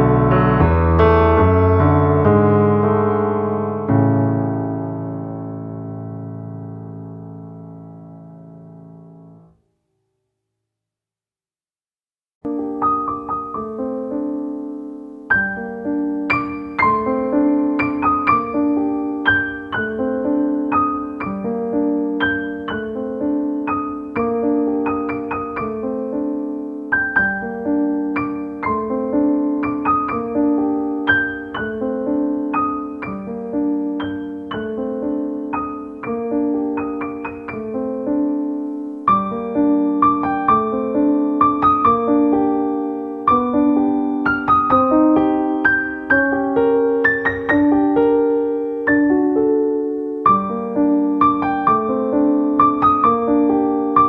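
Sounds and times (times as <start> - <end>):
background piano music: 0.0 - 9.7, 12.4 - 54.0.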